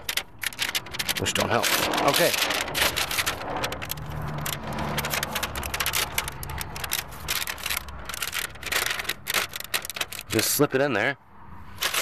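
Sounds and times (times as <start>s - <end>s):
paper crinkling and rustling: 0.0s - 10.8s, 11.7s - 12.0s.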